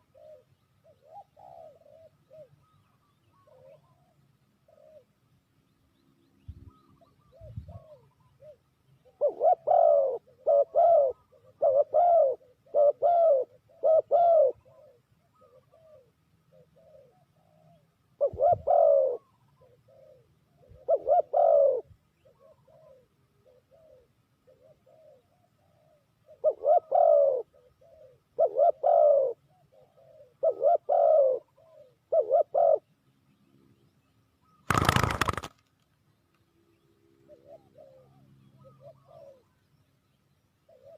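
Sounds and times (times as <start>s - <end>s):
dove cooing: 0.0s - 5.2s, 6.7s - 32.9s, 34.4s - 35.6s, 37.2s - 39.7s, 40.6s - 40.9s.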